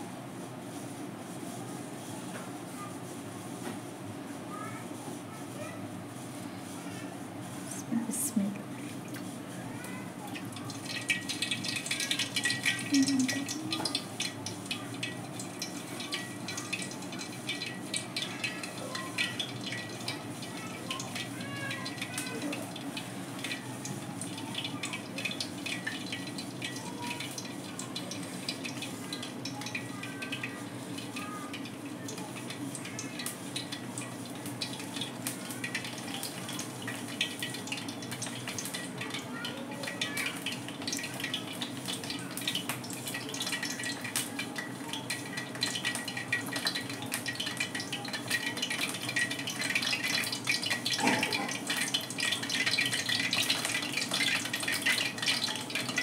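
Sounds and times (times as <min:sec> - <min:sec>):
oil hissing in a pan: 0:04.3 - 0:56.0
oil crackling: 0:08.6 - 0:56.0.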